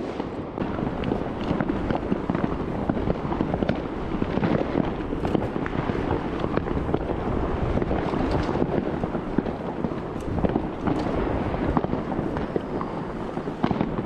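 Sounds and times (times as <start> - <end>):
fireworks popping and crackling: 0.0 - 14.0
wind buffeting microphone: 0.0 - 14.0.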